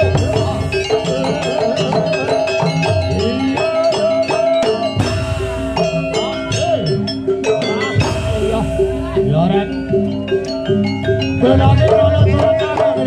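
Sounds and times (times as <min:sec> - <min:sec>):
drums: 0:00.0 - 0:13.0
percussion ensemble music: 0:00.0 - 0:13.0
struck metal percussion: 0:00.0 - 0:13.0.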